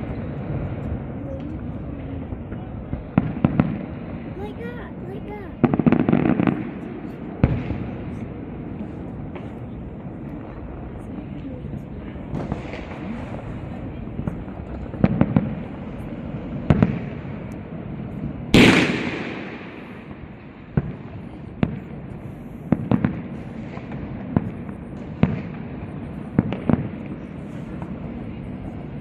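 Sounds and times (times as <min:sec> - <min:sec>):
loud firework blast rumbling: 0:00.0 - 0:29.0.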